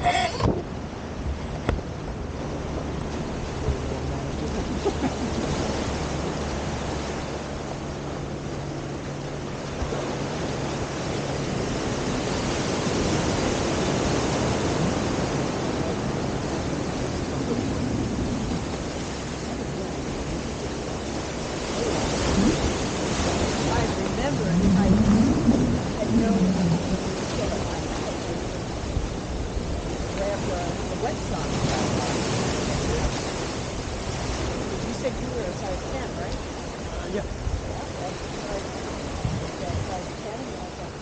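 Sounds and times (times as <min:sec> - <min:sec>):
small waves washing onto beach: 0:00.0 - 0:41.0
wind noise on microphone: 0:00.0 - 0:41.0.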